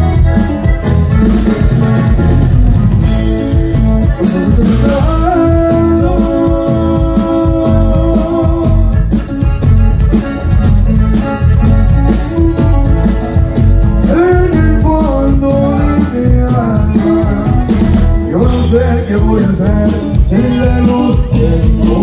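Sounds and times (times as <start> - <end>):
bass and drum beat: 0.0 - 22.0
live band playing dance music: 0.0 - 22.0
melodic lead line: 0.0 - 22.0.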